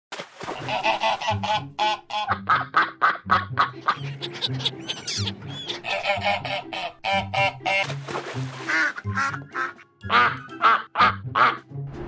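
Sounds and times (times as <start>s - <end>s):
background music: 0.5s - 12.0s
duck quacks: 0.6s - 7.9s, 8.6s - 11.6s.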